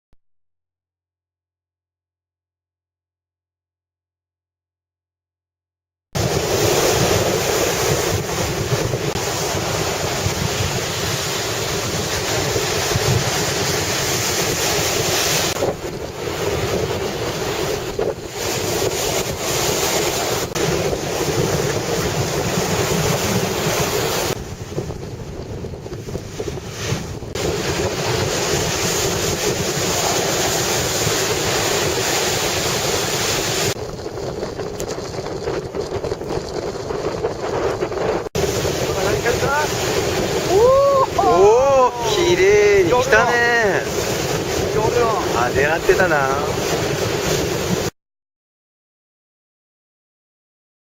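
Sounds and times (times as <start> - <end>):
strong wind on microphone: 6.2 - 47.9
surf: 6.2 - 47.9.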